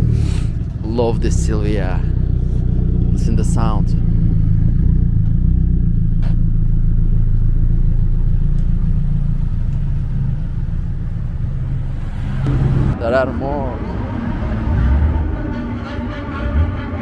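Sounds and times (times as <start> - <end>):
car exhaust rumbling: 0.0 - 17.0.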